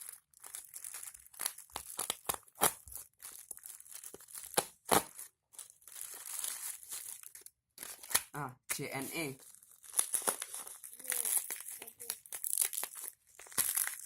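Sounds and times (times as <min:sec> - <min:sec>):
packaging crinkling and ripping: 0:00.0 - 0:14.0.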